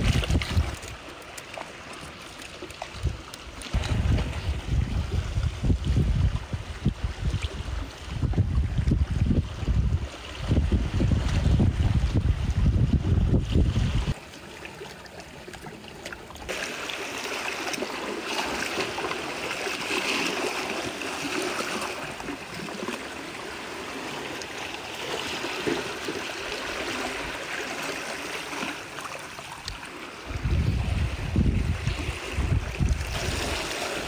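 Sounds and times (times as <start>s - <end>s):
water trickling and gurgling: 0.0s - 34.0s.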